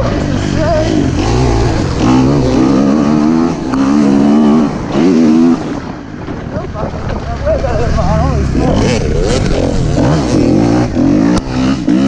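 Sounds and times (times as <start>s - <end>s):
motocross bike engine revving: 0.0s - 6.2s, 7.2s - 12.0s
wind buffeting microphone: 0.0s - 12.0s.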